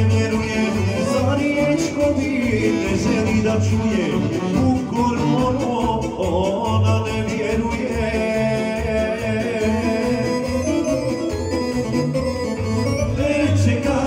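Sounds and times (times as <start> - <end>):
folk dance music: 0.0 - 14.0
person singing: 0.0 - 14.0.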